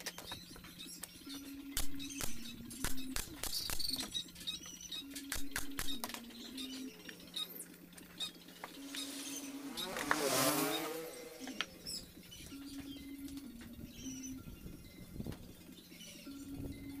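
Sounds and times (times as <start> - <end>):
slow low background music: 0.0 - 17.0.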